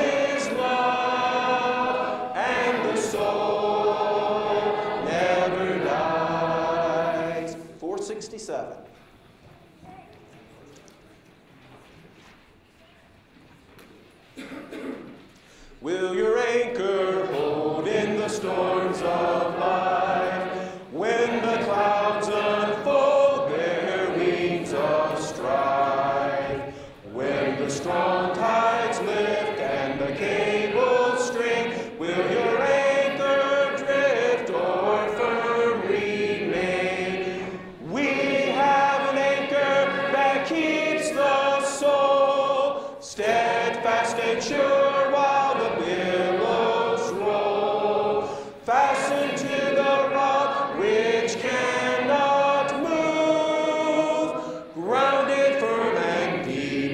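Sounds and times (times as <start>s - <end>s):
congregation singing a hymn: 0.0s - 8.0s, 14.4s - 56.9s.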